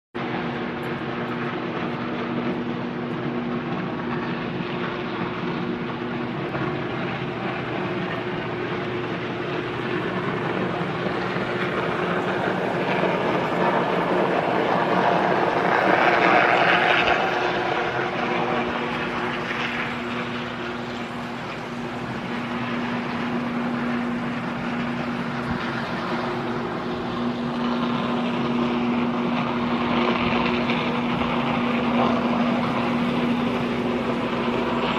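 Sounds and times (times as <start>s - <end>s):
constant electrical hum: 0.2s - 34.9s
electrical arc roaring buzz: 0.2s - 34.9s.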